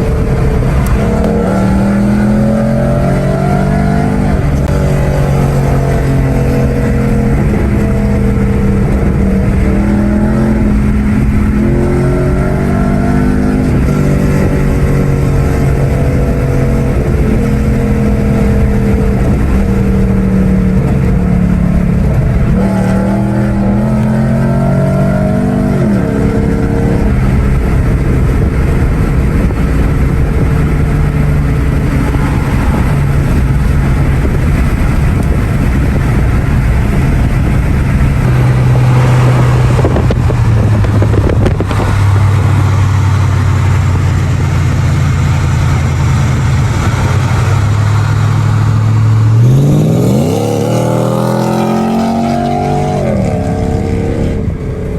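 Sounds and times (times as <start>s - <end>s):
car engine and exhaust revving: 0.0s - 54.9s.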